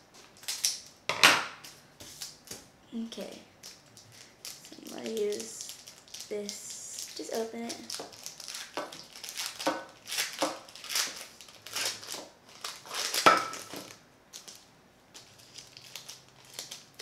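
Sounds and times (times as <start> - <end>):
plastic wrapper crinkling and tearing: 0.2 - 1.0, 3.6 - 17.0.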